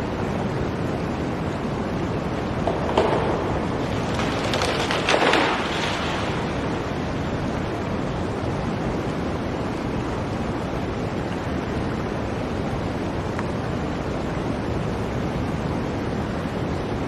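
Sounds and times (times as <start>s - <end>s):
blizzard wind: 0.0s - 17.0s.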